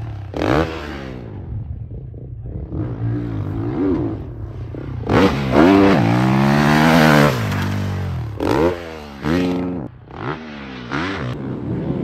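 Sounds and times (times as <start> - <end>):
motocross bike engine passing: 0.3 - 12.0.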